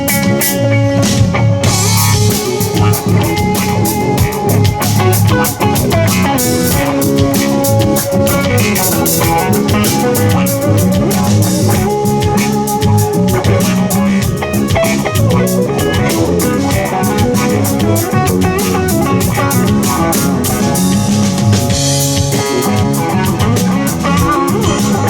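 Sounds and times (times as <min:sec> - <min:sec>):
bass guitar: 0:00.0 - 0:25.0
drum kit steady beat: 0:00.0 - 0:25.0
guitar lines: 0:00.0 - 0:25.0.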